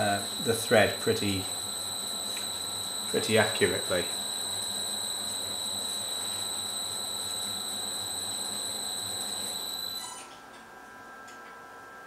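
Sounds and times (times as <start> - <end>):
lathe high-pitched whine: 0.0 - 10.1.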